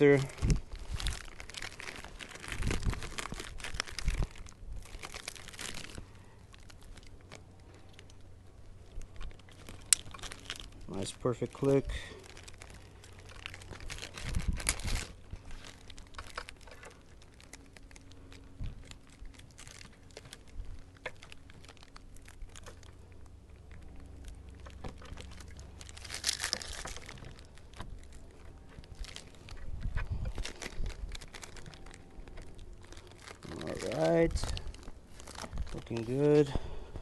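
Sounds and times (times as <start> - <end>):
faint steady hum: 0.0 - 37.0
rustling and crinkling plastic: 0.0 - 37.0.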